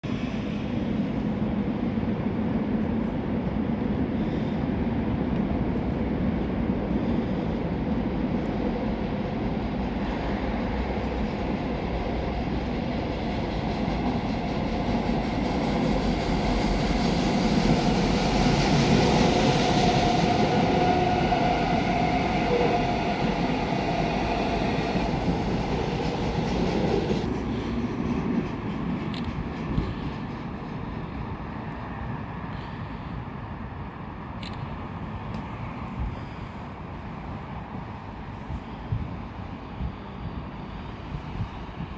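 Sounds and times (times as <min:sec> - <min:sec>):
electric train rumbling past: 0:00.0 - 0:41.9
train whine: 0:00.1 - 0:41.9.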